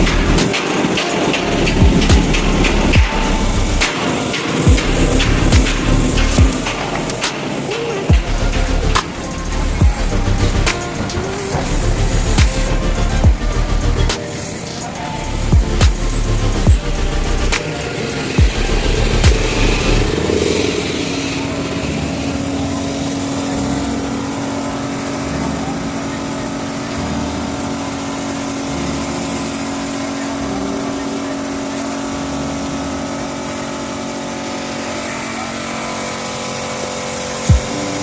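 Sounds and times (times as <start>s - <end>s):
machine humming with hiss: 0.0s - 38.0s.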